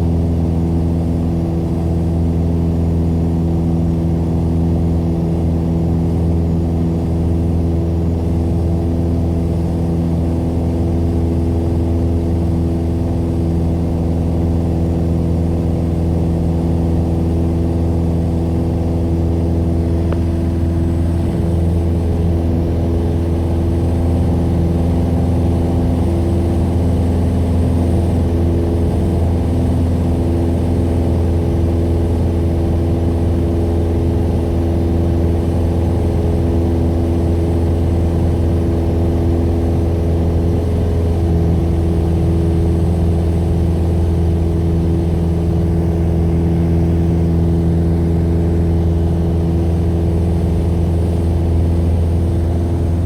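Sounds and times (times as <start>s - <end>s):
small plane engine droning: 0.0s - 53.0s.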